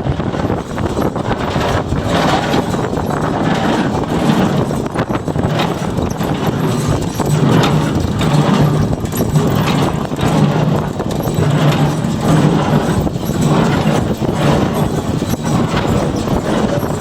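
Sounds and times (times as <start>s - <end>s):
tractor engine drone: 0.0s - 17.0s
baler mechanism clattering: 0.1s - 17.0s.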